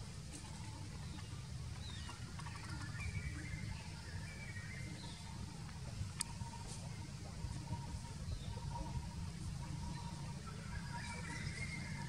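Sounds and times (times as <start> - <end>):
steady low rumble: 0.0 - 12.0
faint high chirping calls: 0.3 - 12.0.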